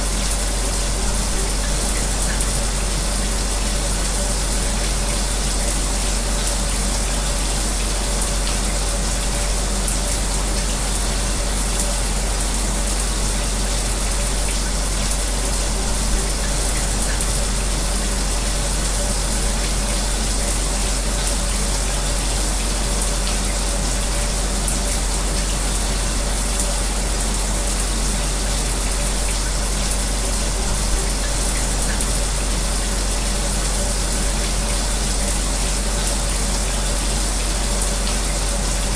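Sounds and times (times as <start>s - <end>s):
shower running: 0.0s - 38.9s.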